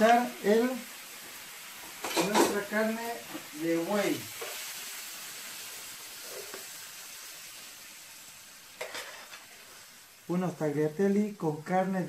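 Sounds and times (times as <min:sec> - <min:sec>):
frying pan sizzling: 0:00.0 - 0:12.0.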